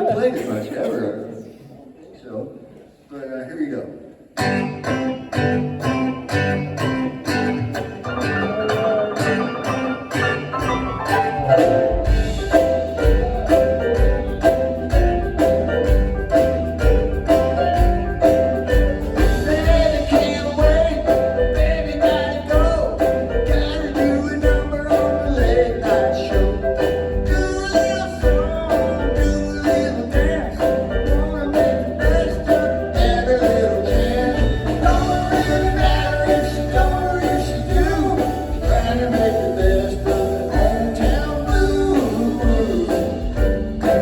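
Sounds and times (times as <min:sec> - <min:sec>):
rock band playing live: 0:04.3 - 0:44.0.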